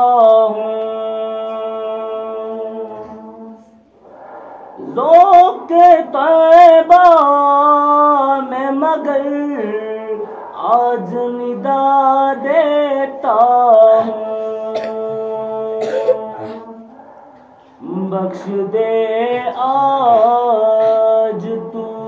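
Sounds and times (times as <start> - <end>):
man chanting unaccompanied: 0.0 - 3.8, 4.8 - 16.9, 17.8 - 22.0.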